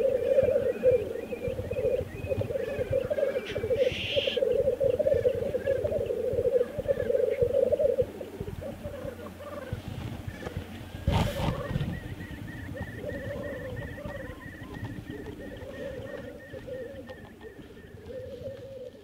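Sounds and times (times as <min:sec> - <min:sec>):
black grouse bubbling song: 0:00.0 - 0:19.0.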